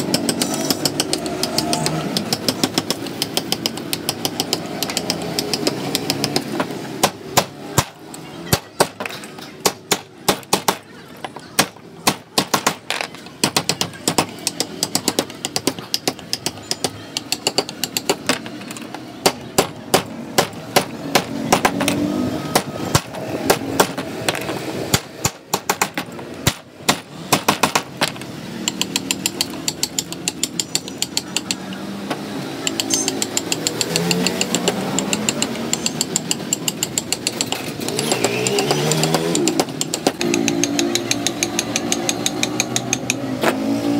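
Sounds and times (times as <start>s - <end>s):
mallet striking wood gouge: 0.0s - 43.6s.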